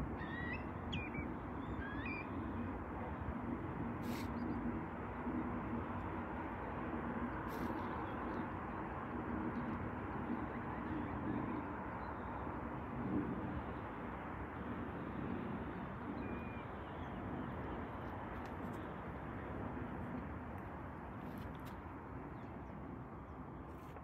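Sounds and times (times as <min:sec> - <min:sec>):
steady rush of outdoor noise: 0:00.0 - 0:24.0.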